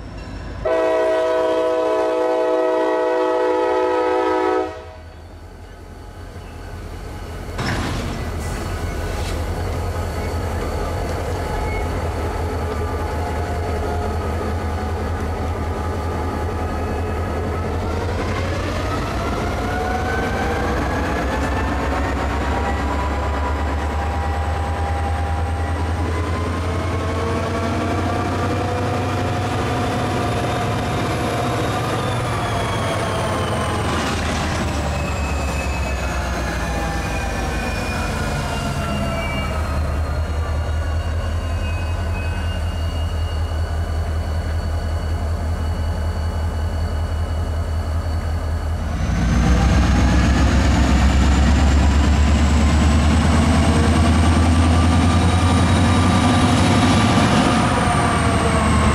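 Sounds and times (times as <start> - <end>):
diesel locomotive engine drone: 0.0 - 58.9.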